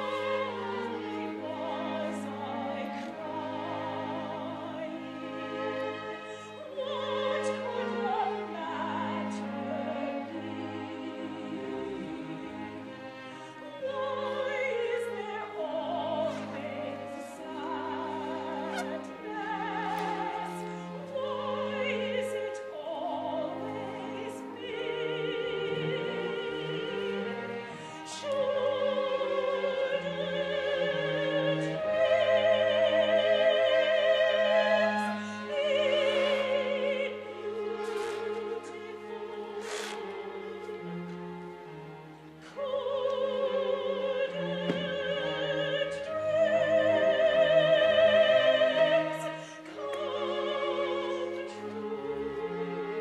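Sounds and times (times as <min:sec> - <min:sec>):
opera singer with orchestra: 0:00.0 - 0:53.0.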